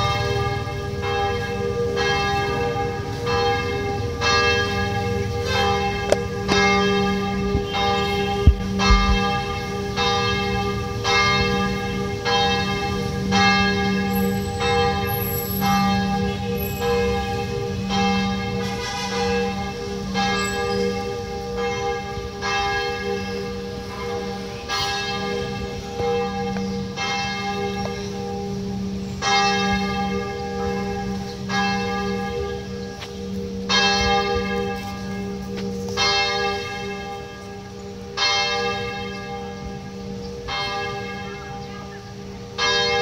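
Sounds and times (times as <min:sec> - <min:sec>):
church bell tolling: 0:00.0 - 0:43.0.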